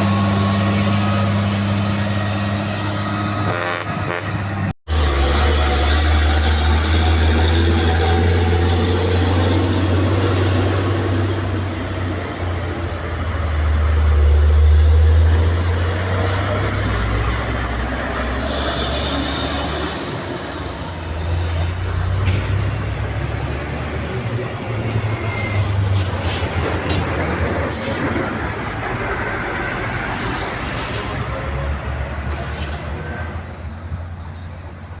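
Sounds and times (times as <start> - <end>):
heavy vehicle engine rumble: 0.0 - 35.0
road noise: 0.0 - 35.0.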